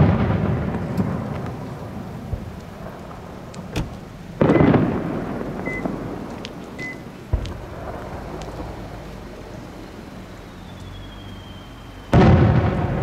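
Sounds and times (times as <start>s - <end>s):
small firework pops and crackles: 0.0s - 9.8s, 10.6s - 13.0s
fireworks booming: 0.0s - 13.0s.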